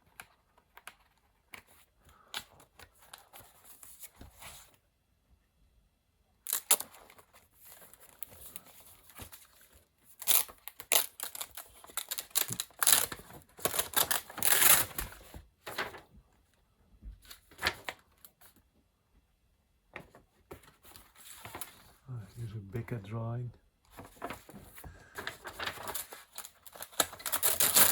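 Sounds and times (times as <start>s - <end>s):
paper rustling and crinkling: 0.0s - 4.8s, 6.5s - 16.5s, 17.2s - 18.7s, 19.9s - 23.1s, 23.9s - 27.9s.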